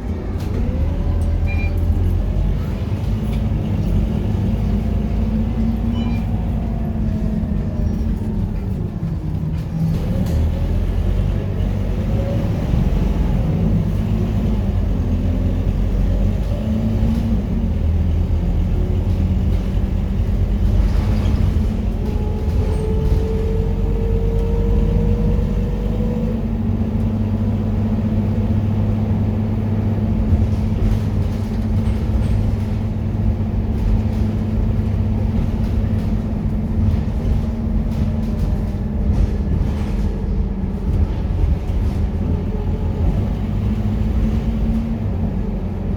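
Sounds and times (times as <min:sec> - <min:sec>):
bus diesel engine running: 0:00.0 - 0:45.9.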